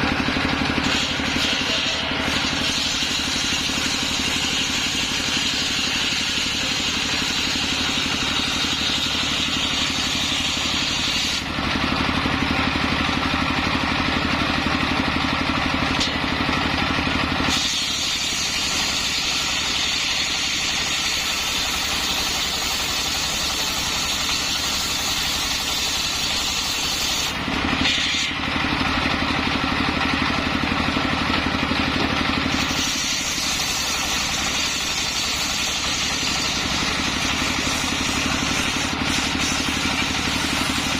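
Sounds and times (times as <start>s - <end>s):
circular saw cutting wood: 0.0s - 40.9s.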